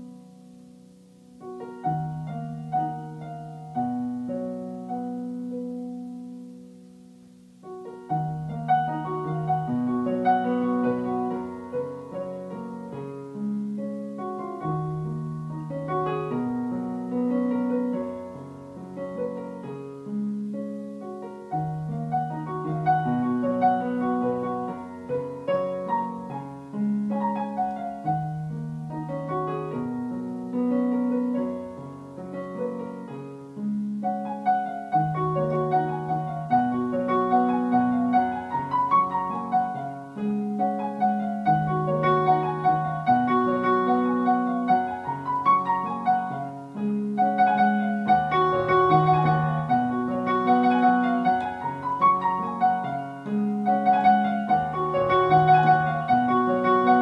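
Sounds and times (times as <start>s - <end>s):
slow digital piano piece: 0.0s - 57.0s.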